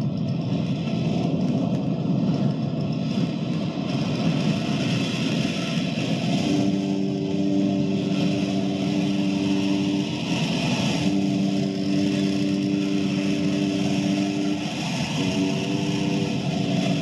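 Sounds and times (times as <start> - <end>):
continuous rushing noise: 0.0 - 17.0.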